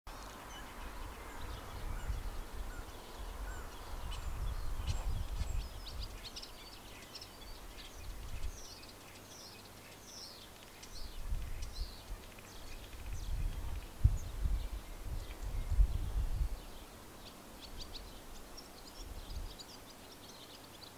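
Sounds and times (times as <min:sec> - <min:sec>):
wind rumble on microphone: 0:00.1 - 0:08.8, 0:10.9 - 0:16.9, 0:17.6 - 0:19.7
songbirds chirping: 0:00.1 - 0:20.9.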